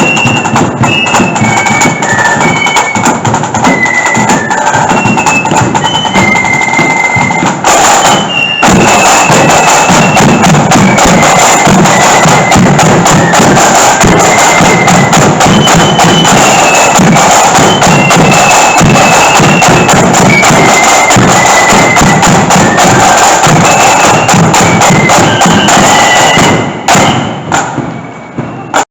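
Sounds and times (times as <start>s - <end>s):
marching flute band: 0.0s - 28.9s
snare and bass drums: 0.0s - 28.9s.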